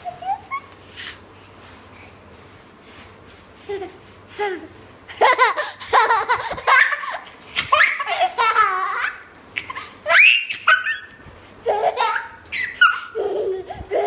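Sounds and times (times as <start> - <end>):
young child laughing: 0.0 - 1.0, 3.6 - 14.0.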